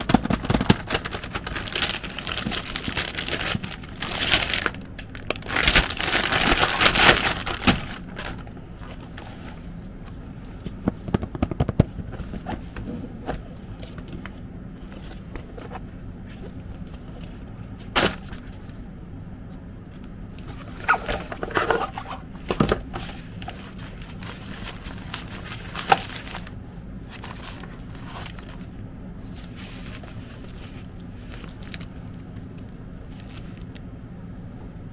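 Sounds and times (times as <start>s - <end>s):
packaging crinkling and rustling: 0.0s - 18.8s, 20.4s - 33.8s.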